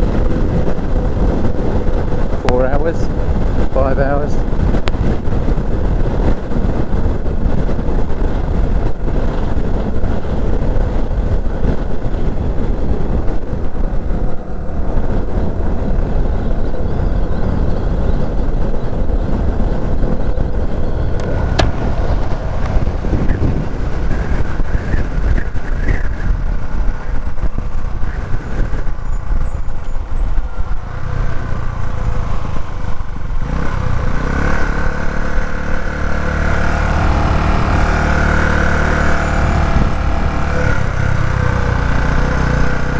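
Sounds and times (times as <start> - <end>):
motorcycle engine running: 0.0 - 42.9
wind noise on microphone: 0.0 - 42.9.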